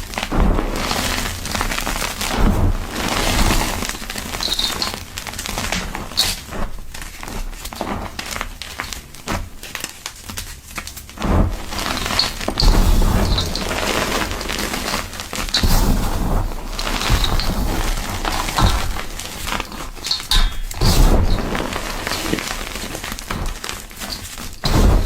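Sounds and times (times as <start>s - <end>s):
chalk crunching and crackling: 0.0s - 25.0s.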